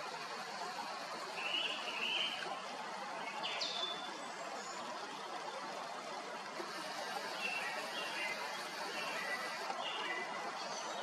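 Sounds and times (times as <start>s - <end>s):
forest stream rushing: 0.0s - 11.0s.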